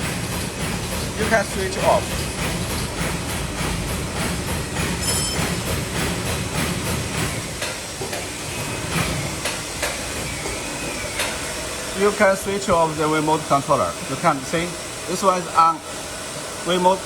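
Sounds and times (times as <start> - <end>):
machine clattering with rhythmic knocks: 0.0 - 16.9.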